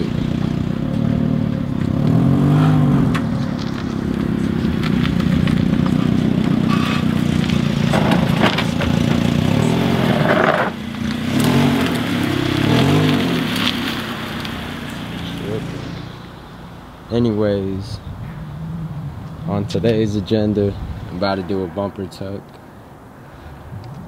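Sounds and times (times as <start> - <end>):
car engine revving: 0.0 - 22.3.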